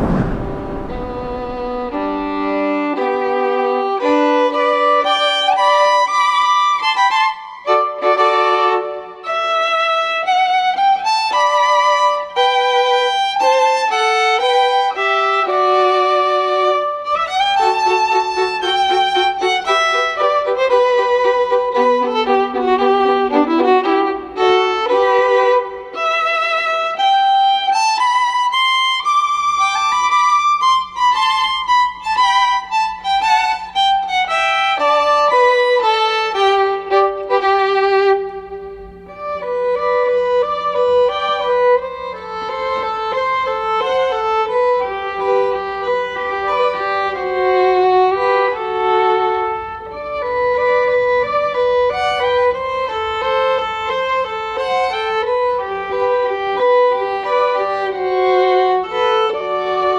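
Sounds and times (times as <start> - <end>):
solo violin slow melody: 2.0 - 59.9.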